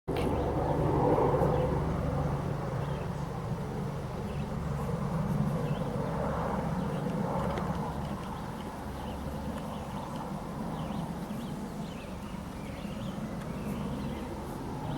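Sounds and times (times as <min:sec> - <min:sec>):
low engine drone: 0:00.1 - 0:14.9.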